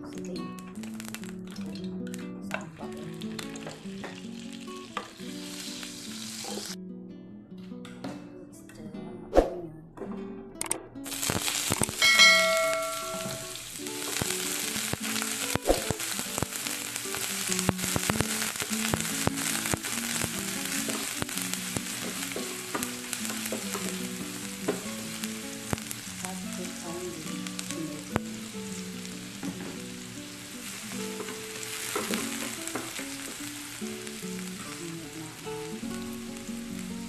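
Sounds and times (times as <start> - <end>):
quiet background music: 0.0 - 37.0
onions sizzling in oil: 0.4 - 2.2, 2.8 - 6.8, 11.1 - 37.0.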